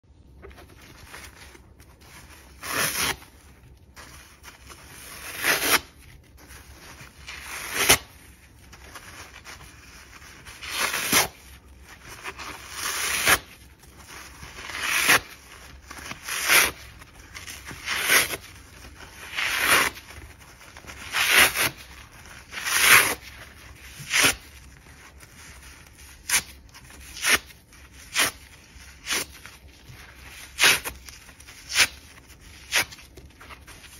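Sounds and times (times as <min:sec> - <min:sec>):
sponge tearing: 0:00.5 - 0:25.3, 0:25.9 - 0:33.9.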